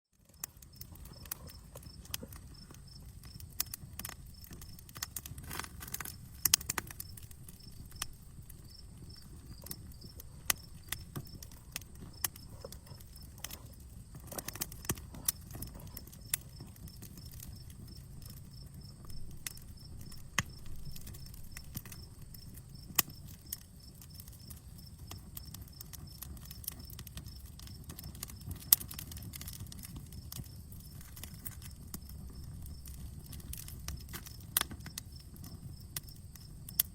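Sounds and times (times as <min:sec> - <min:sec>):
campfire crackling and popping: 0:00.1 - 0:36.9.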